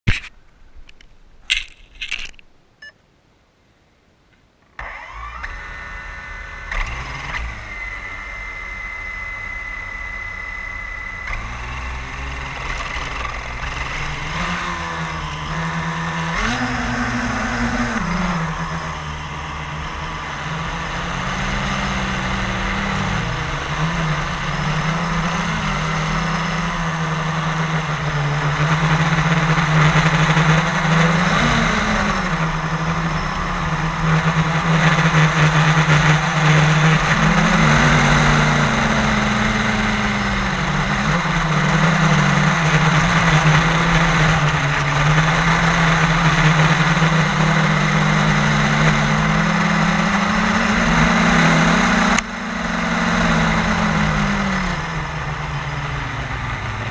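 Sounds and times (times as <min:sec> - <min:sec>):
quadcopter motors whining: 0:04.8 - 0:56.9.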